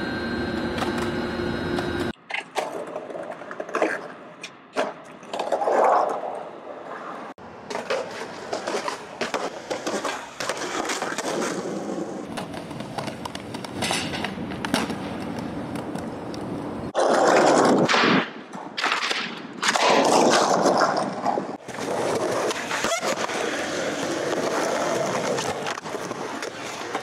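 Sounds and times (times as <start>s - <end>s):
skateboard wheels rolling on concrete: 0.4s - 27.0s
skateboard clacking on ground: 2.2s - 6.4s, 7.5s - 27.0s.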